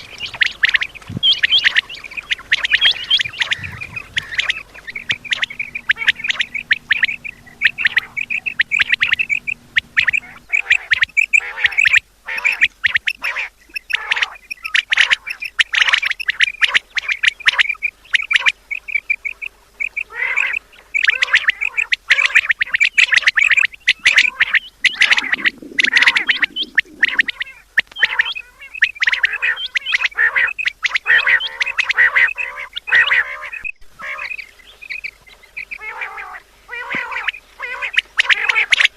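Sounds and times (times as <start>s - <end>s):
quail flock calling: 0.0s - 38.9s.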